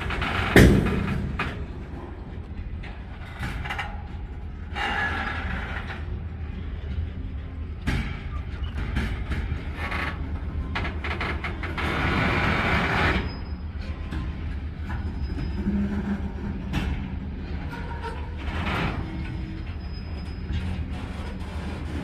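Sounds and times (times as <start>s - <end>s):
freight train wheels rumbling: 0.0s - 22.0s
train cars clanking: 0.0s - 22.0s.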